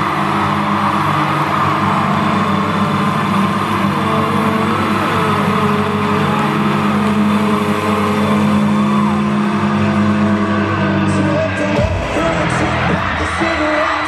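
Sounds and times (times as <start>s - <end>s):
loud live band music: 0.0s - 14.0s.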